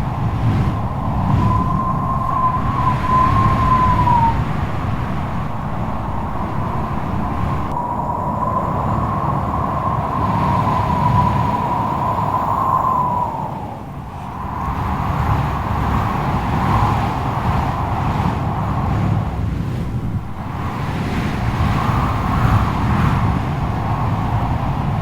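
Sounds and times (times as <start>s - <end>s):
strong wind howling: 0.0s - 25.0s.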